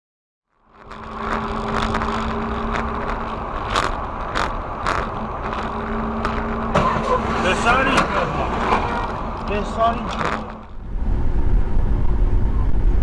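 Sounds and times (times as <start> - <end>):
car engine and road noise: 0.4 - 13.0.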